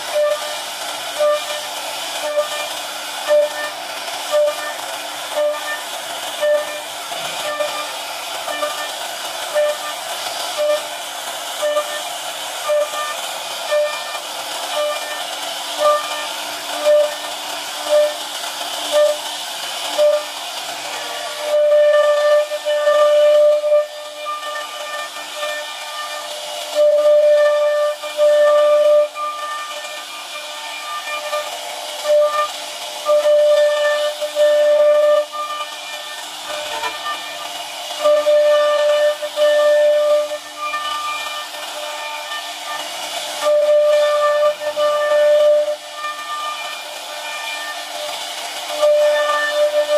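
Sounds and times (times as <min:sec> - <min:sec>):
hiss of wood cutting: 0:00.0 - 0:49.9
router spindle whining: 0:00.0 - 0:49.9.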